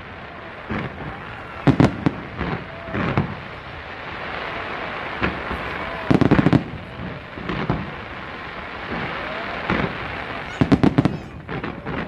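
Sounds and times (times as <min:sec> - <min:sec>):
fireworks bangs and pops: 0:00.0 - 0:12.0
steady hiss: 0:00.0 - 0:12.0.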